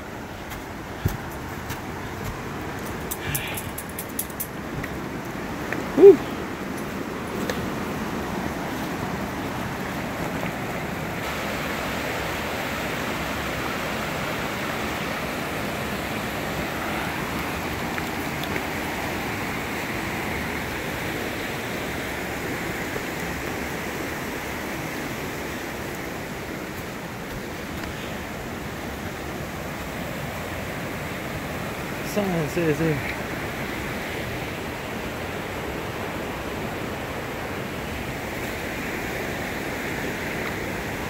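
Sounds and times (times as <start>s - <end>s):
creek water rushing: 0.0s - 41.0s.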